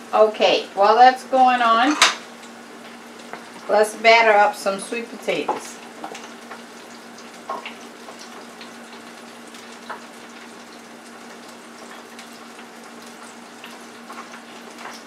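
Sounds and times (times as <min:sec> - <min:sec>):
deep fryer oil crackling: 0:00.0 - 0:15.0.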